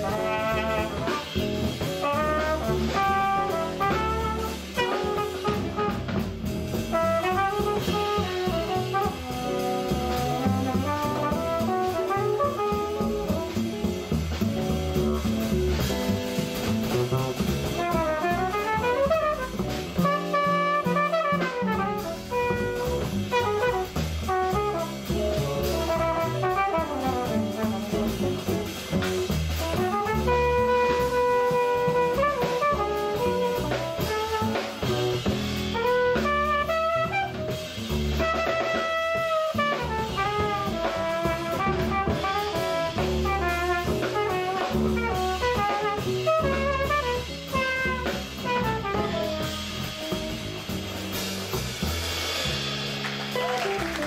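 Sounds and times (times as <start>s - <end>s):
trumpet solo: 0.0s - 16.1s, 17.3s - 51.2s, 53.4s - 54.0s
drum kit: 0.0s - 54.0s
walking upright bass: 0.0s - 54.0s.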